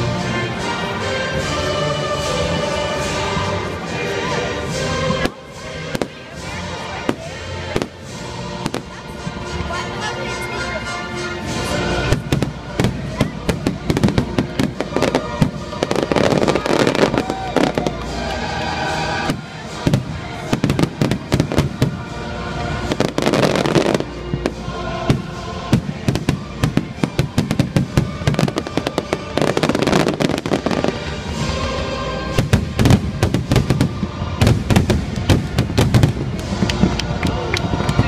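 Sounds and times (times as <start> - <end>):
fireworks bangs and crackles: 0.0 - 9.8, 11.4 - 38.0
show music: 0.0 - 38.0.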